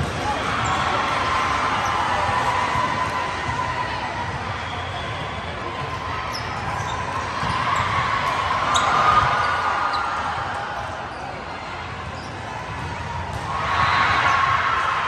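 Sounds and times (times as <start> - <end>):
volleyballs bouncing on gym floor: 0.0 - 11.1, 11.8 - 14.8.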